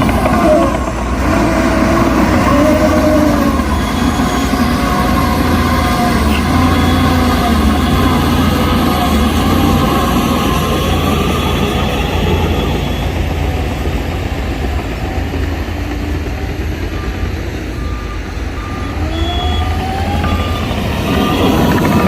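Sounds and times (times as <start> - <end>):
diesel machinery rumble: 0.0 - 22.0
wavering whine and squeal: 0.0 - 22.0.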